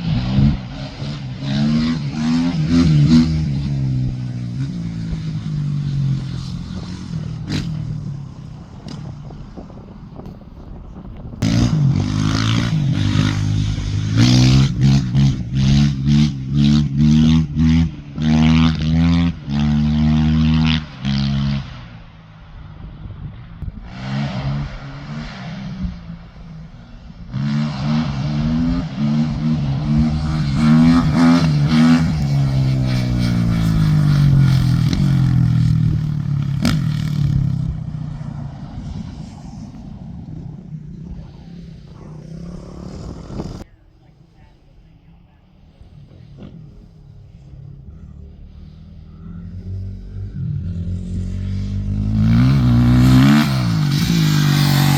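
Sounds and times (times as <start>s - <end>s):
motorcycle engine revving: 0.0s - 22.2s, 23.6s - 43.7s, 45.1s - 54.9s.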